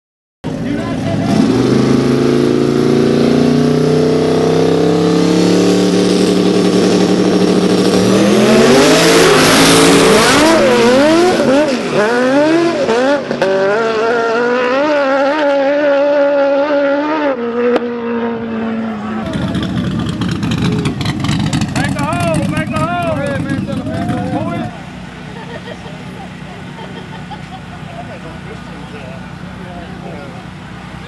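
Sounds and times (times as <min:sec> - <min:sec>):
race car engines revving: 0:00.4 - 0:31.0
loud rush of noise: 0:00.5 - 0:13.5, 0:17.8 - 0:31.0.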